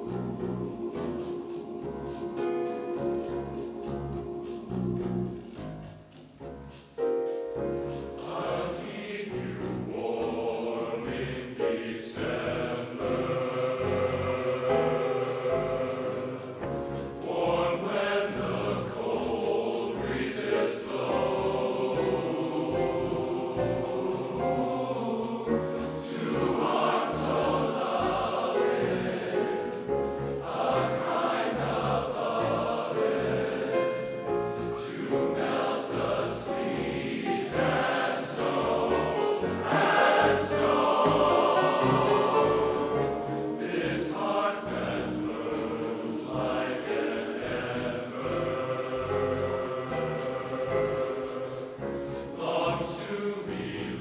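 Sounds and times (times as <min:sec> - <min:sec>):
men's chorus singing in harmony: 0:00.0 - 0:05.8, 0:07.9 - 0:54.0.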